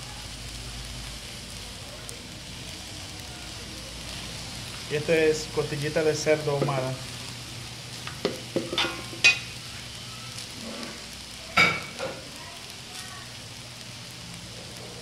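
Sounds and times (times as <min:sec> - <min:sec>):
rice sizzling in pan: 0:00.0 - 0:15.0.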